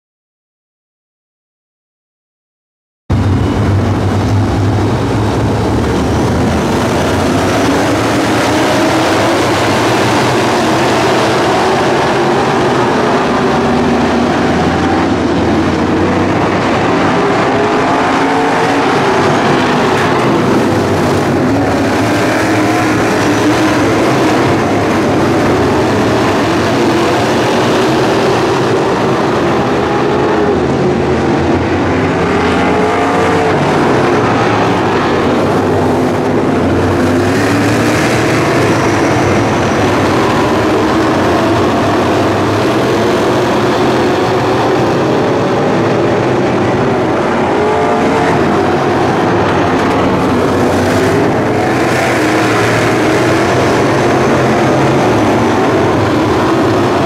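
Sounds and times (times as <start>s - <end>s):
race car engines racing past: 3.1s - 57.0s.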